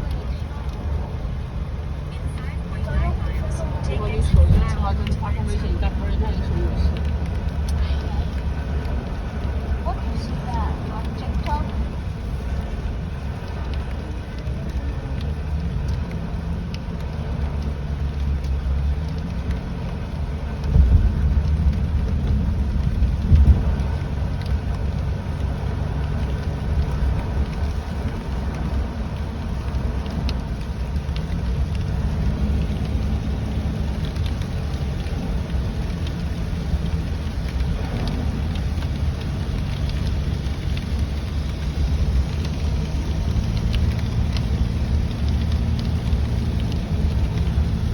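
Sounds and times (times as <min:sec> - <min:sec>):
car road and engine rumble: 0:00.0 - 0:47.9
rain ticking on car: 0:00.0 - 0:47.9.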